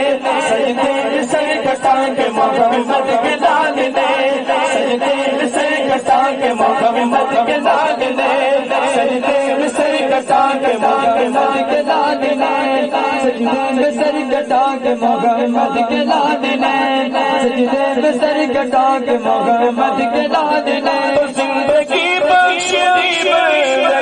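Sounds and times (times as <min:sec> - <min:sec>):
men chanting: 0:00.0 - 0:24.0.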